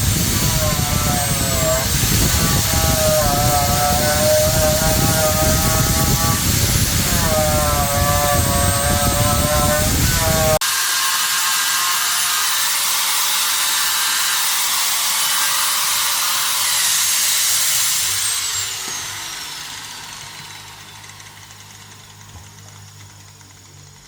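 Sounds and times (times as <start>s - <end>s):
tool winding down whine: 0.0s - 24.0s
workshop tool hissing: 0.0s - 24.0s.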